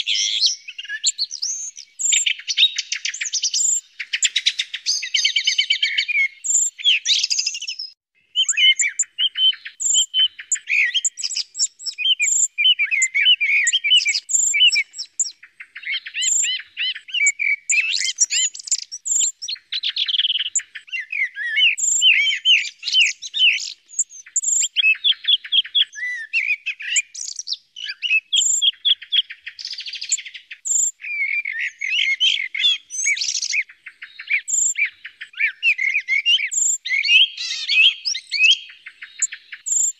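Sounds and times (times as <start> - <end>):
songbirds singing with trills: 0.0 - 39.9.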